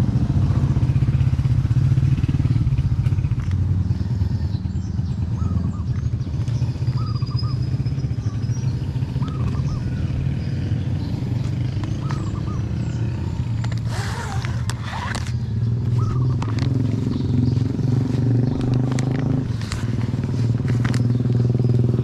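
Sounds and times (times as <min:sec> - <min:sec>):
small engine droning: 0:00.0 - 0:22.0
bird chirping: 0:03.8 - 0:22.0.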